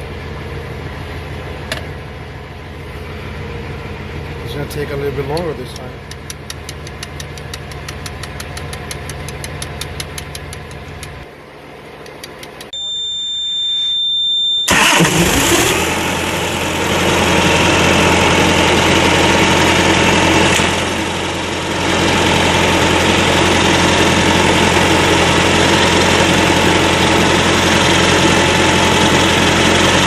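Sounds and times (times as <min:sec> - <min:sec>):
diesel engine starting and running: 0:00.0 - 0:12.9, 0:14.6 - 0:30.0.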